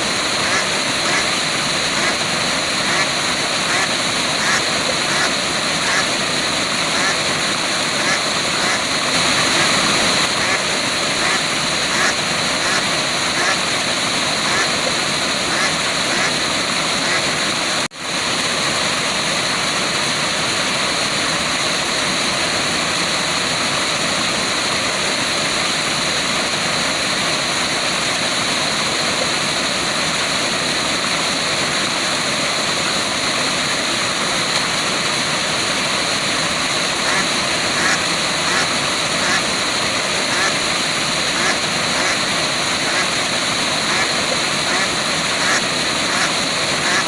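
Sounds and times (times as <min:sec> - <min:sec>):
waterfall: 0:00.0 - 0:47.0.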